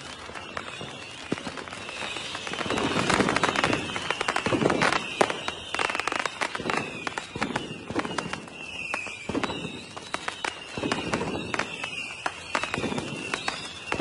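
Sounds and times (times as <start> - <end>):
firework crackling: 0.0 - 14.0
high whistle sliding down: 0.1 - 14.0
firework shells booming: 0.4 - 14.0.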